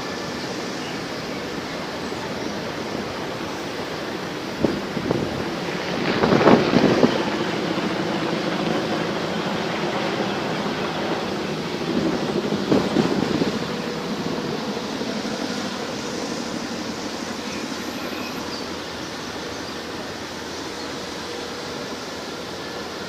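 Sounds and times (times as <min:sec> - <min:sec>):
military aircraft roar: 0:00.0 - 0:23.0.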